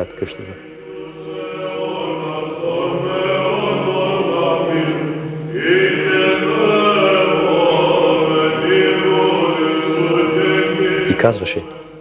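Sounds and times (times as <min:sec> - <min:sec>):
group of voices chanting: 0:00.8 - 0:11.3.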